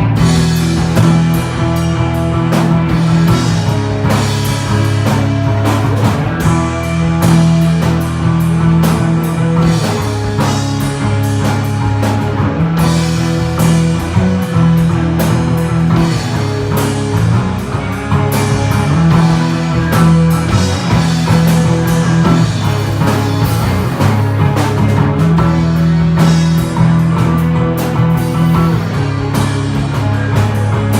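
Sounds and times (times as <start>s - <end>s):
bass guitar notes: 0.0s - 30.9s
drum hits: 0.0s - 30.9s
electric guitar: 0.0s - 30.9s.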